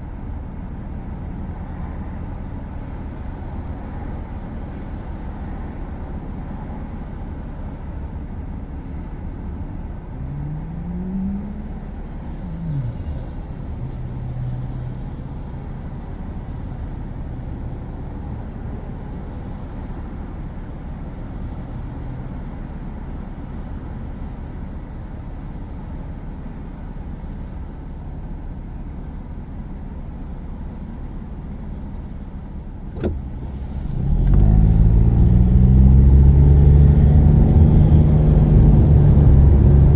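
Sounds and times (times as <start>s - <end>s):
car engine: 0.0s - 39.9s
road rumble inside car: 0.0s - 39.9s.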